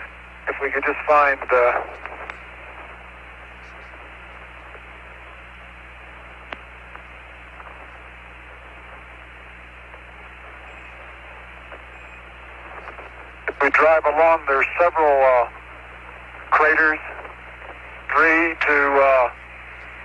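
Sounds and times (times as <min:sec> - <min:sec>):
low hum: 0:00.0 - 0:20.0
radio hiss: 0:00.0 - 0:20.0.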